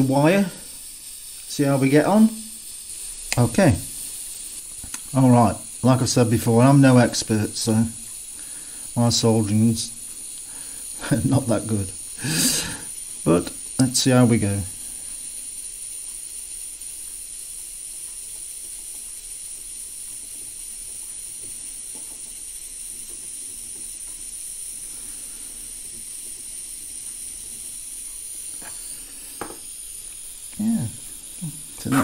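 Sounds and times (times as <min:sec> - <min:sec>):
gas soldering iron hissing: 0:00.0 - 0:32.0.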